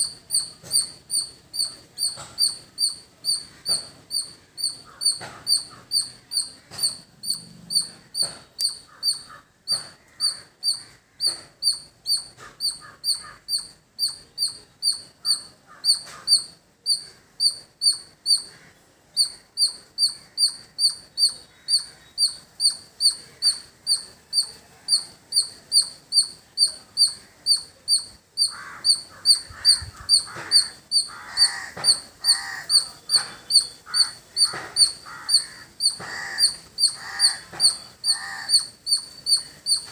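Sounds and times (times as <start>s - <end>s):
squirrel chirping: 0.0s - 39.9s.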